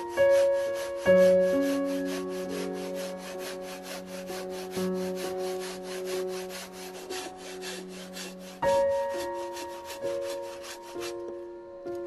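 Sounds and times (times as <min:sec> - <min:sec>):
pull saw cutting wood: 0:00.0 - 0:11.3
background music sustained notes: 0:00.0 - 0:12.0.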